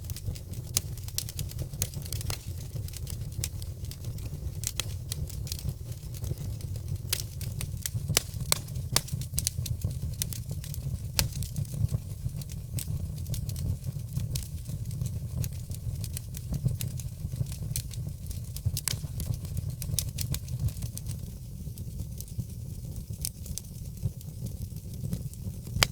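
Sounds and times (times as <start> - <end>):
fire crackling and popping: 0.0 - 25.9
low rumble of flames: 0.0 - 25.9.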